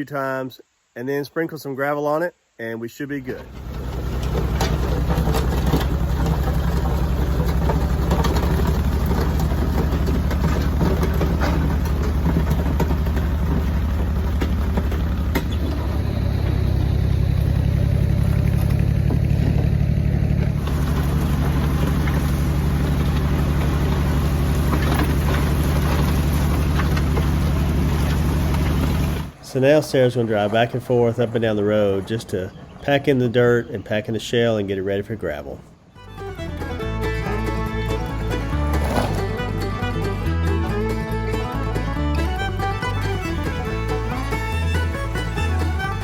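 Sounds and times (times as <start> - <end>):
tractor engine running: 3.2 - 34.3, 36.0 - 46.0
blade scraping dirt road: 3.3 - 33.6, 36.4 - 46.0.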